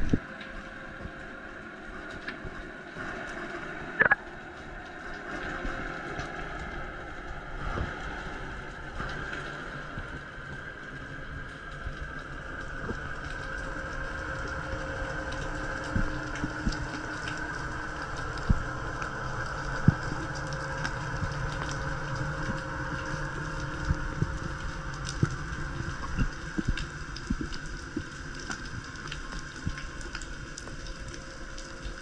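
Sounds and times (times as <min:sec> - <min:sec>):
steady underwater hum: 0:00.0 - 0:32.0.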